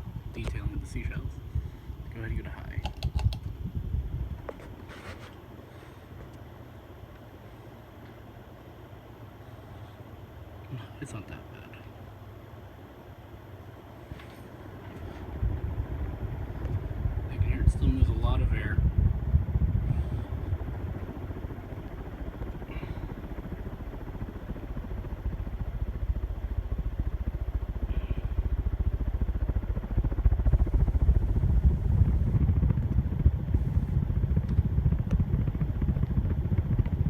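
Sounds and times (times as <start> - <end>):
ceiling fan draught rumbling: 0.0 - 37.0.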